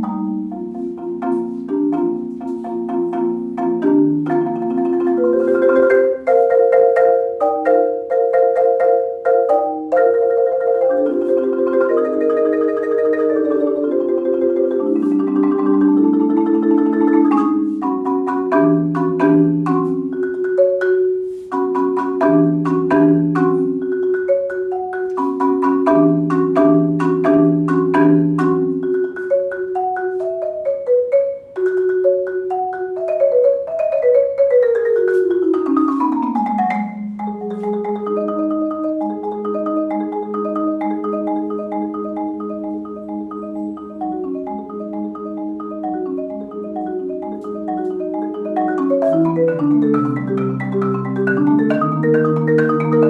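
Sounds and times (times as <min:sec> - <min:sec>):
marimba playing: 0:00.0 - 0:53.0.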